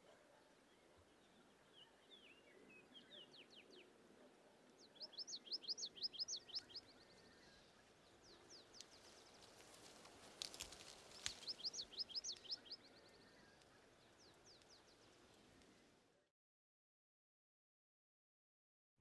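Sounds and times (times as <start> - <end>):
faint outdoor hiss: 0.0 - 16.3
songbird chirping: 0.0 - 16.3.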